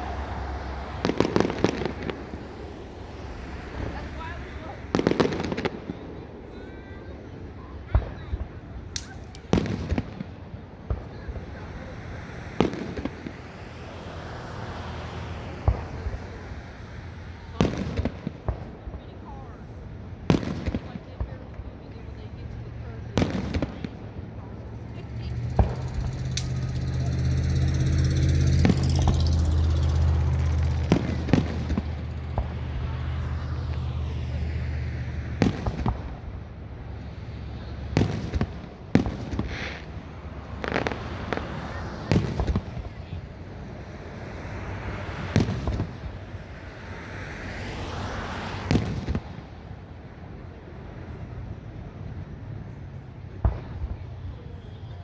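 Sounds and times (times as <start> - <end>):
firework bangs: 0.0 - 52.7, 53.3 - 55.0
vehicle engine humming: 0.0 - 55.0.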